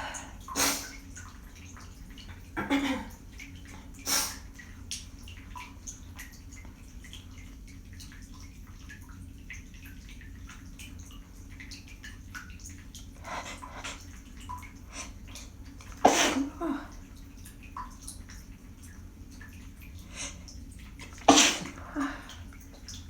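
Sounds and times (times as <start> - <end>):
running water: 0.0 - 23.0
water drips and splashes: 0.0 - 23.0.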